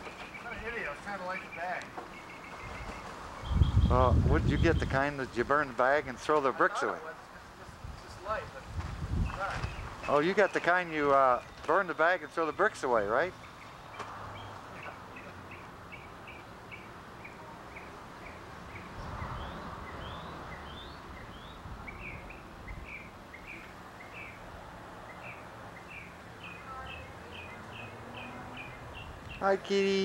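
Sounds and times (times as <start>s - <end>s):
bird chirping: 0.0s - 5.8s, 9.2s - 30.0s
outdoor background noise: 0.0s - 30.0s.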